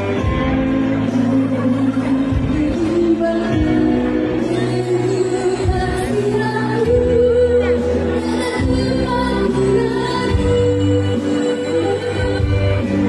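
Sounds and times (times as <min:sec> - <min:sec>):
live band slow song: 0:00.0 - 0:13.0
woman singing: 0:01.0 - 0:13.0.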